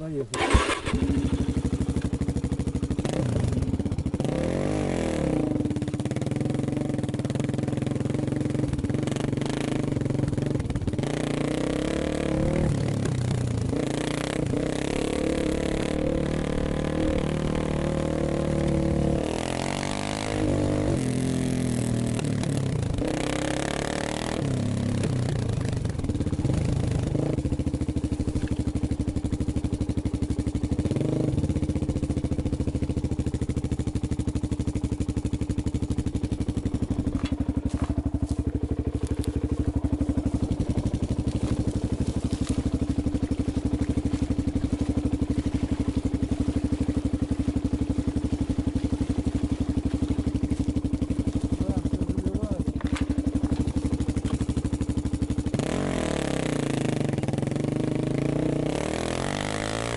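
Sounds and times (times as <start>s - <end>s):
dirt bike engine revving and idling: 0.0s - 59.9s.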